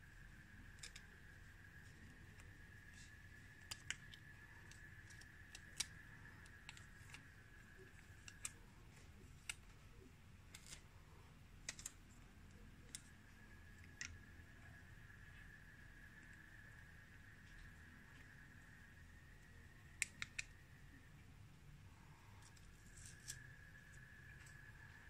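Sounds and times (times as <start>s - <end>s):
faint high-pitched whine: 0.0s - 25.0s.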